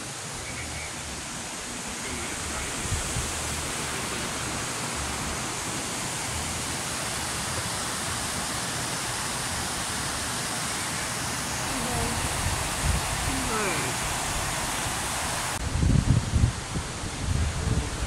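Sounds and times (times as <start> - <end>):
river rushing over rocks: 0.0 - 15.6.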